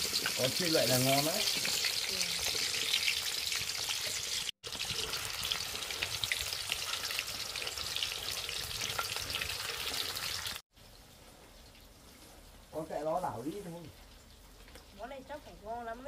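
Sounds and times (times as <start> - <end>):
potatoes deep-frying in hot oil: 0.0 - 16.0.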